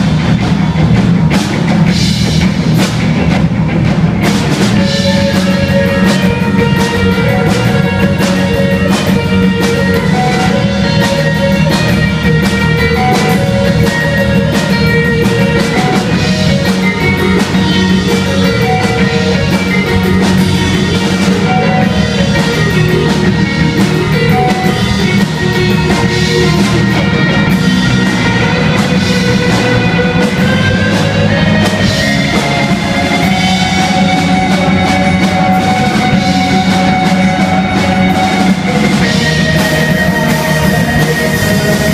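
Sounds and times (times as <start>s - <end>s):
distorted electric guitars: 0.0s - 41.9s
drum kit with cymbals: 0.0s - 41.9s.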